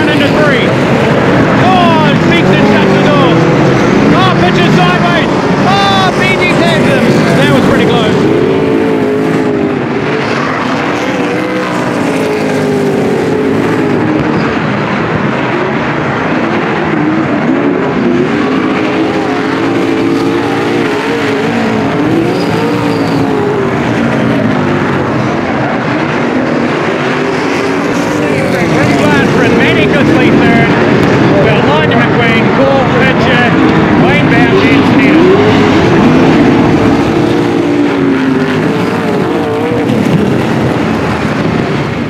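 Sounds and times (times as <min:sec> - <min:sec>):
racing car engines revving: 0:00.0 - 0:42.0.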